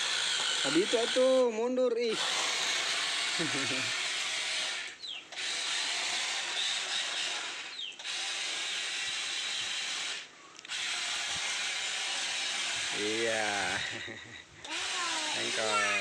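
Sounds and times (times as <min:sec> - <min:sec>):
toy electric motors whirring: 0:00.0 - 0:01.5, 0:02.1 - 0:16.0.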